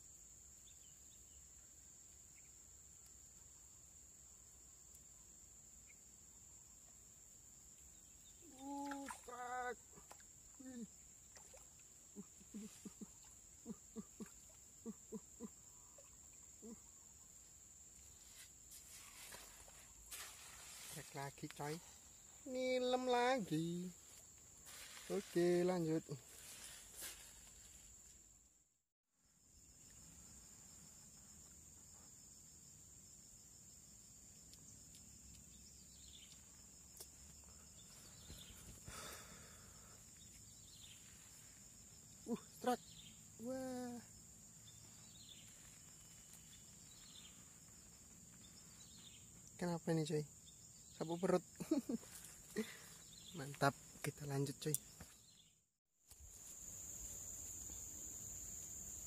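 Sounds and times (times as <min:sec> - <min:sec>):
insects chirring: 0:00.0 - 0:28.6, 0:29.2 - 0:59.0.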